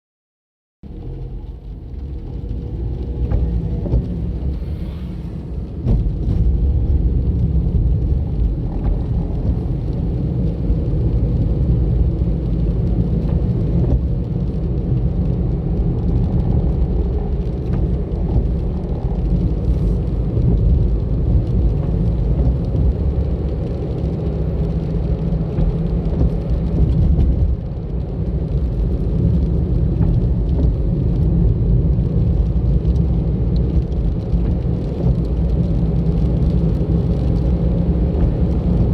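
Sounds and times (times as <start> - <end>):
car engine rumble: 0.8 - 38.9
tyres on road: 0.8 - 38.9.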